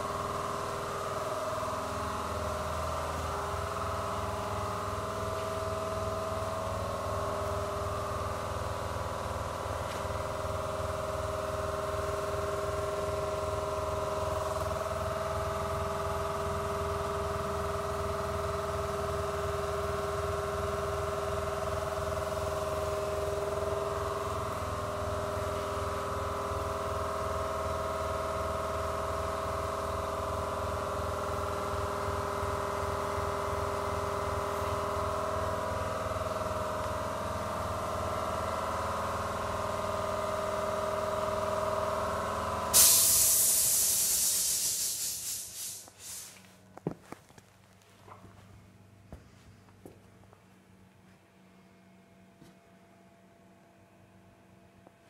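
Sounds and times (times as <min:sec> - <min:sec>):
electrical whine and hum: 0:00.0 - 0:55.0.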